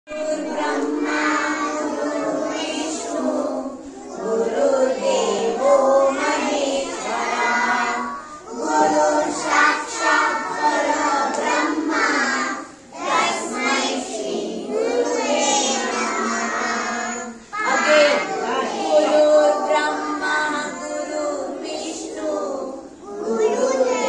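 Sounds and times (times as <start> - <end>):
children singing in unison: 0.1 - 24.0.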